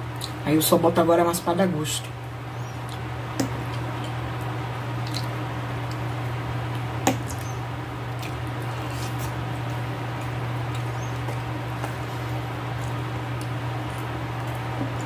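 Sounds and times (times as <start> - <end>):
steady low hum: 0.0 - 15.0
wet chewing: 2.8 - 15.0.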